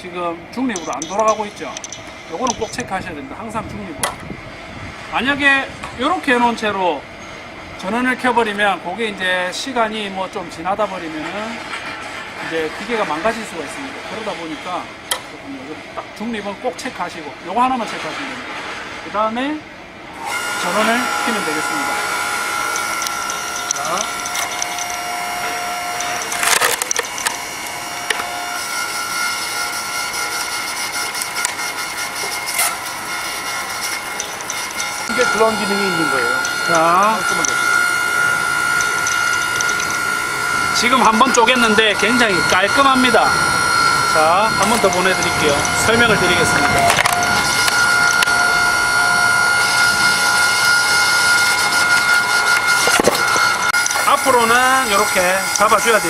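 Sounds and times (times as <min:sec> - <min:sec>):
log splitter motor and pump hum: 0:00.0 - 0:56.0.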